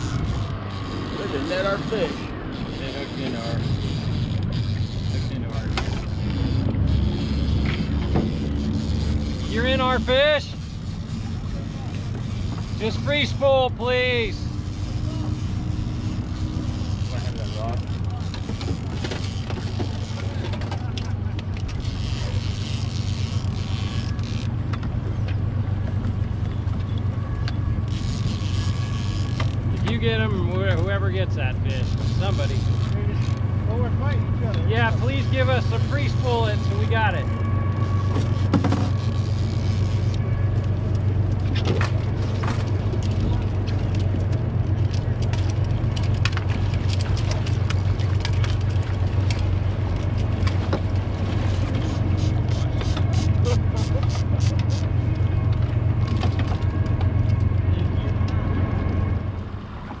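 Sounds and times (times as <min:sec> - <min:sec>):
boat motor droning: 0:00.0 - 1:00.0.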